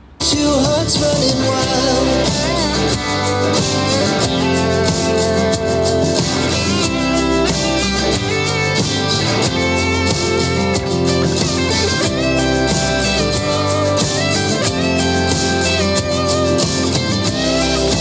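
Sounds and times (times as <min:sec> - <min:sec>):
pop music with steady beat: 0:00.2 - 0:18.0.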